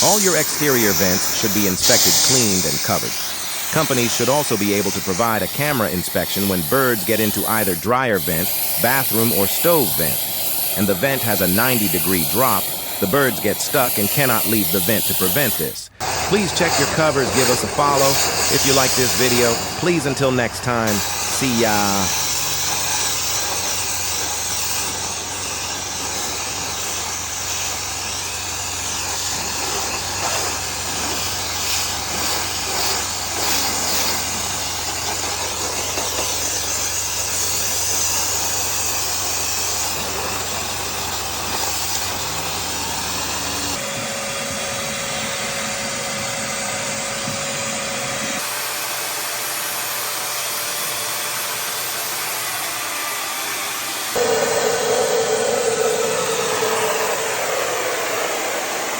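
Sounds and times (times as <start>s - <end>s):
duct-cleaning machine whirring: 0.0s - 48.5s, 54.2s - 58.9s.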